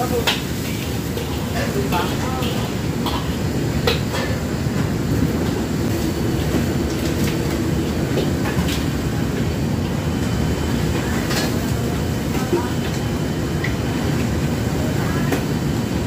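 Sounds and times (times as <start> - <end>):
gas burner and hood rumble: 0.0 - 16.0.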